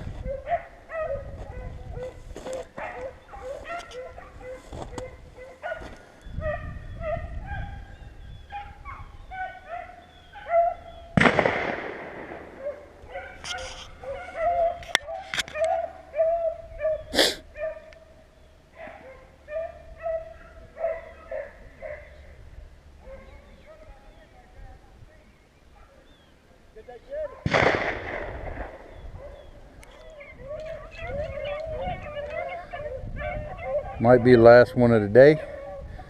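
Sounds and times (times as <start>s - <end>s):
hounds baying: 0.0s - 11.2s, 12.4s - 24.4s, 28.7s - 36.0s.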